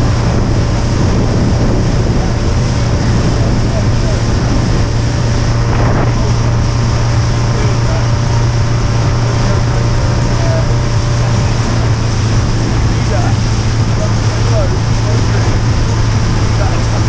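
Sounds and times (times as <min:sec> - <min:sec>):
motorboat engine droning: 0:00.0 - 0:17.0
rushing water: 0:00.0 - 0:17.0
wind buffeting microphone: 0:00.0 - 0:17.0.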